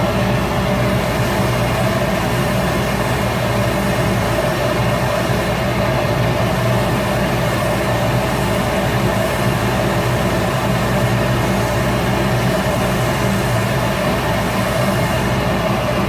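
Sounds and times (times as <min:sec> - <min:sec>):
wood lathe motor humming: 0:00.0 - 0:16.0.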